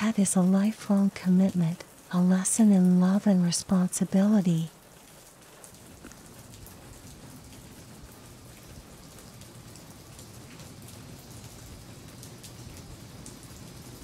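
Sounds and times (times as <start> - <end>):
steady soft rain: 0.0 - 14.0.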